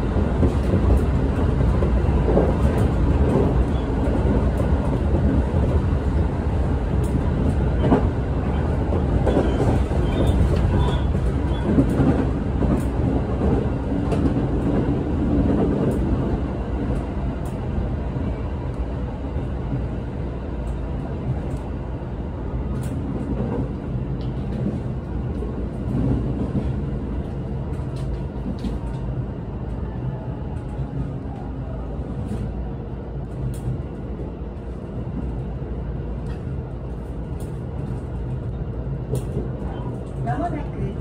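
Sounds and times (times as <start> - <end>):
train cabin rumble: 0.0 - 41.0.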